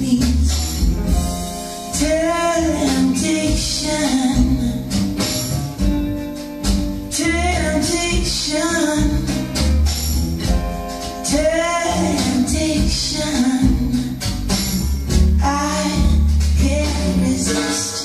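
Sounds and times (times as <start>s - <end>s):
song with vocals bass and percussion: 0.0s - 18.0s.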